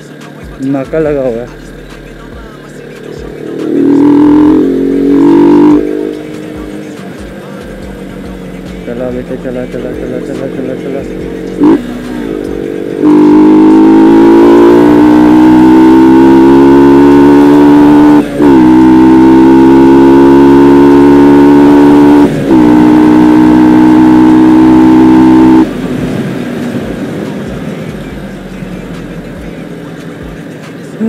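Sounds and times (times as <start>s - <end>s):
motorcycle engine accelerating: 0.0s - 30.6s.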